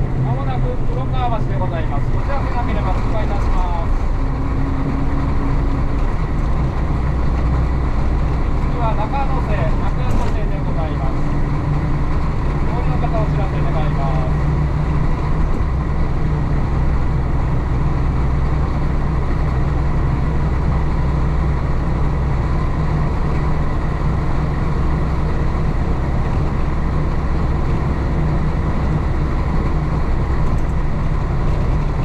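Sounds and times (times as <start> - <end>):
diesel bus engine running: 0.0 - 32.0
road noise: 0.0 - 32.0.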